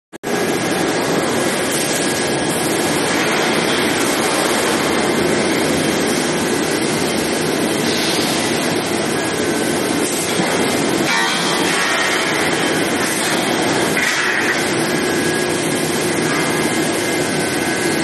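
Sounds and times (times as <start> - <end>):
high steady whine: 0.2 - 18.0
machinery roar: 0.2 - 18.0.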